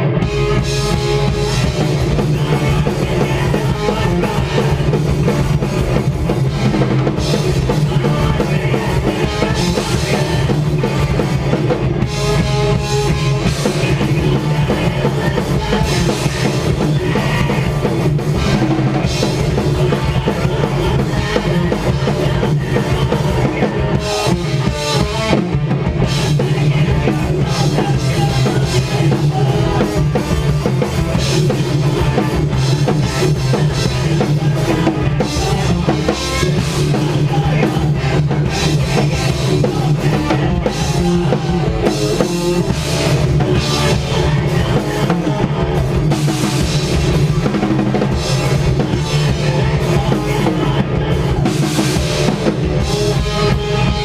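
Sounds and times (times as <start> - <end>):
bass drum: 0.0 - 54.0
live heavy rock music: 0.0 - 54.0.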